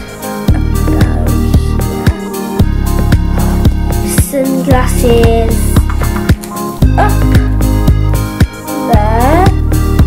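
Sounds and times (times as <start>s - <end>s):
background music with beat and bass: 0.0s - 10.0s.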